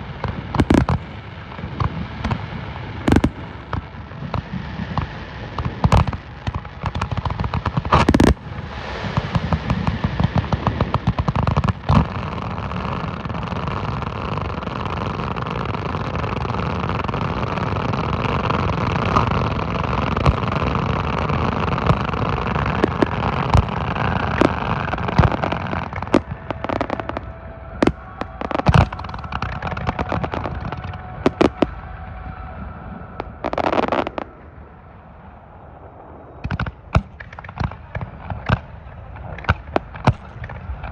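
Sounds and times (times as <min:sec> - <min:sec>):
fireworks bangs: 0:00.0 - 0:40.9
fireworks crackling: 0:00.0 - 0:40.9
rumbling wash: 0:00.0 - 0:40.9.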